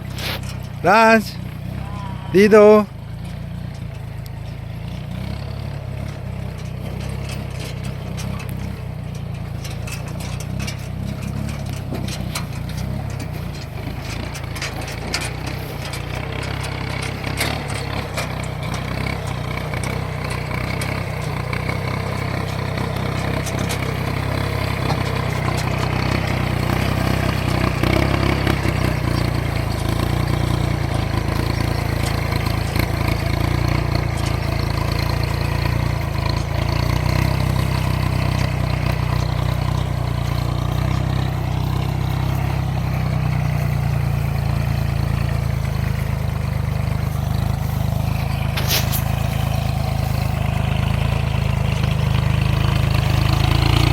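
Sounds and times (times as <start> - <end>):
tractor engine droning: 0.0 - 53.9.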